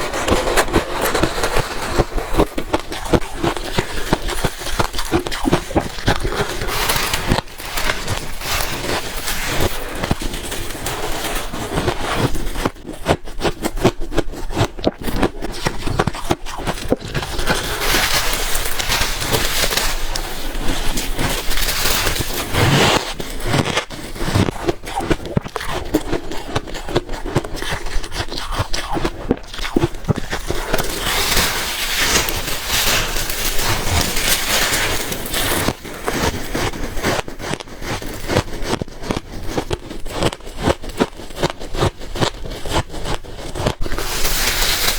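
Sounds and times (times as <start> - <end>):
chewing ice crunches: 0.0 - 44.9.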